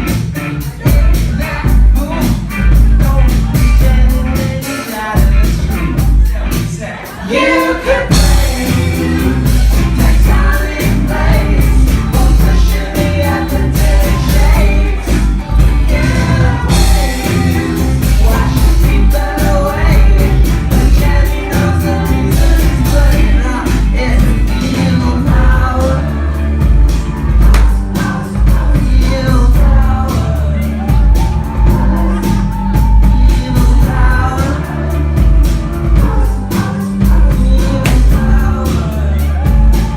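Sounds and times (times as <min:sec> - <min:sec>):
live rock band playing: 0:00.0 - 0:39.9
person singing: 0:00.0 - 0:39.9.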